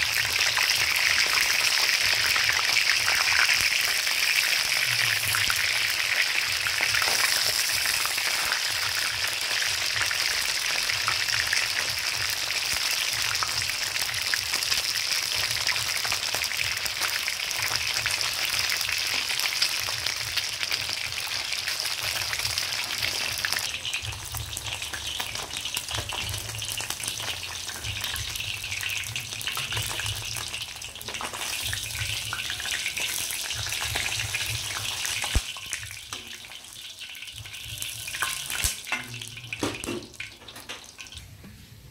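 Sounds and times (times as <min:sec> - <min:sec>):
fish frying in hot oil: 0:00.0 - 0:41.2.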